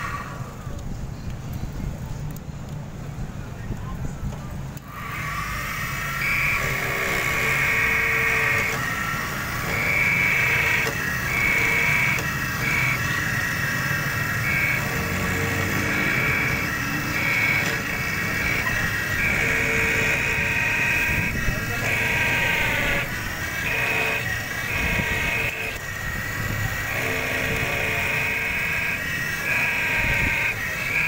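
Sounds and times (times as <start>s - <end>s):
key-copying machine whine: 4.8s - 31.0s.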